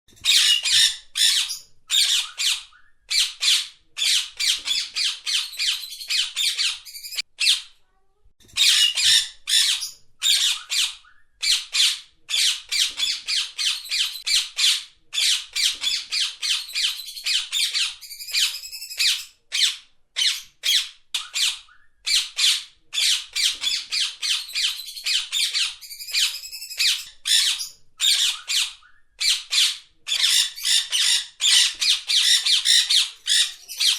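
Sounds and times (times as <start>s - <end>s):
parakeet squawking: 0.2s - 7.7s, 8.6s - 33.9s.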